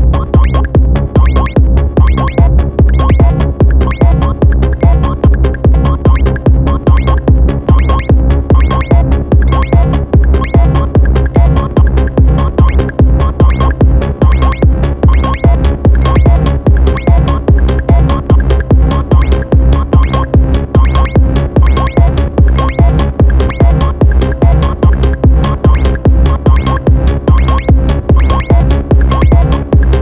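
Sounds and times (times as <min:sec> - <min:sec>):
drum machine pattern: 0:00.0 - 0:30.0
heavy synth bass: 0:00.0 - 0:30.0
repeating synth notes: 0:00.0 - 0:30.0.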